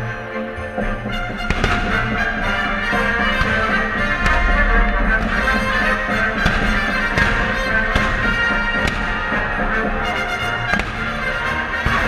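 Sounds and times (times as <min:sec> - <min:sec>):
music playing: 0:00.0 - 0:12.0
firework bangs: 0:01.4 - 0:12.0.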